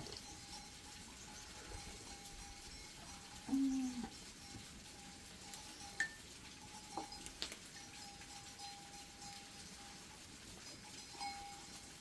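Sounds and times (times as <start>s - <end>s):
faint light clinks: 0.0s - 12.0s.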